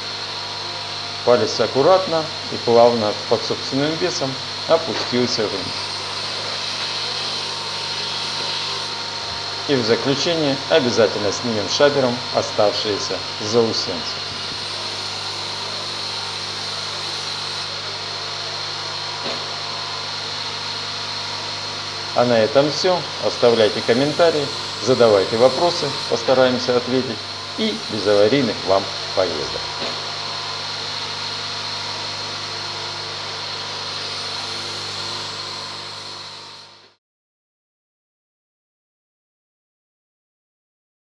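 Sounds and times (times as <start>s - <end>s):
electric motor humming: 0.0s - 37.0s.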